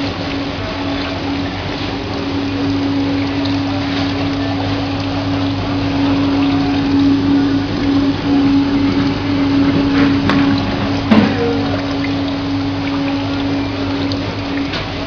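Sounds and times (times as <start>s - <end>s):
pump motor hum: 0.0s - 15.0s
water spraying: 0.0s - 15.0s.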